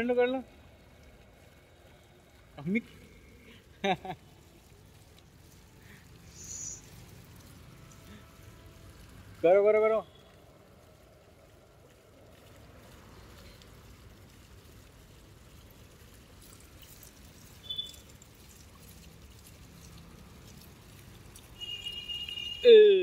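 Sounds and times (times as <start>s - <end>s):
running splashing water: 0.0s - 23.0s.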